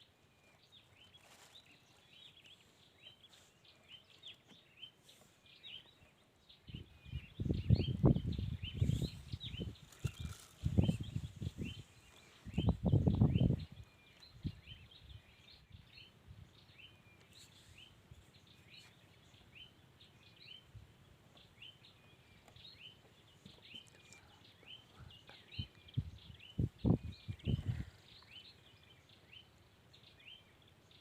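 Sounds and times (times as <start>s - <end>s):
birds chirping: 0.0s - 31.0s
faint outdoor background noise: 0.0s - 31.0s.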